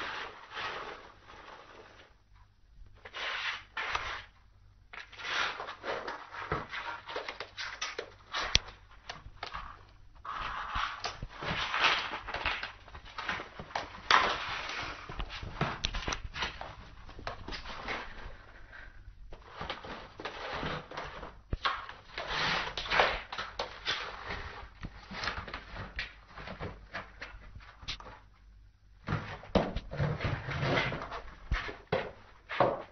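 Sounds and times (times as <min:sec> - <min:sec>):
cardboard box scraping on tile: 0:00.0 - 0:02.2, 0:03.0 - 0:27.4, 0:29.1 - 0:32.9.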